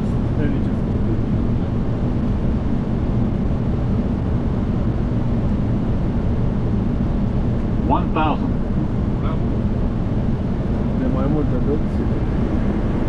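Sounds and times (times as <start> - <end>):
airflow and engines rushing: 0.0 - 13.0
low hum: 0.0 - 13.0.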